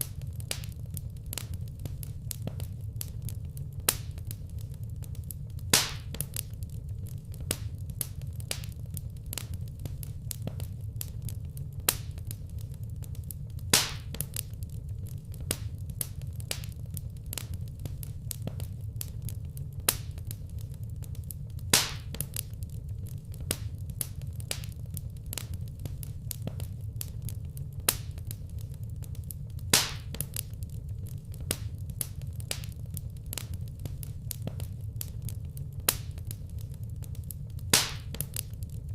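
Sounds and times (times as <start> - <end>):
loud fire pops: 0.0 - 38.9
wood fire crackling: 0.0 - 38.9.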